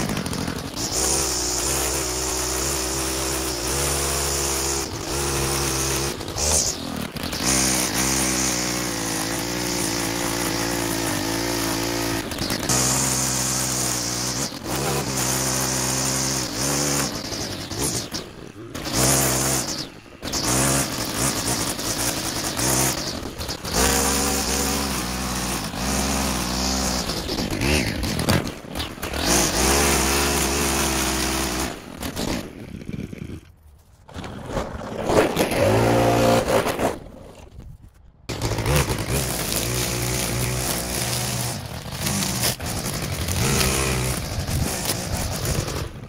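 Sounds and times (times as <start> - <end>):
small gas engines running: 0.0 - 33.5, 38.3 - 46.0.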